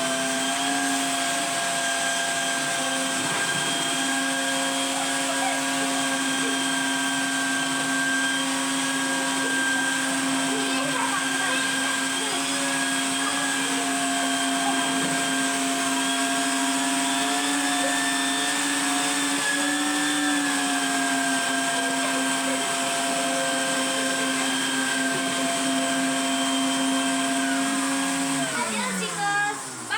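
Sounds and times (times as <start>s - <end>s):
vacuum cleaner motor whining: 0.0s - 29.9s.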